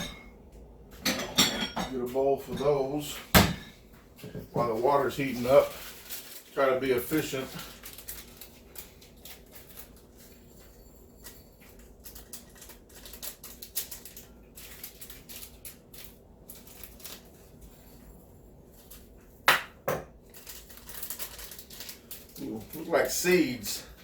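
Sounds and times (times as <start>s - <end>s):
small kitchen clicks and rustles: 0.0s - 24.0s.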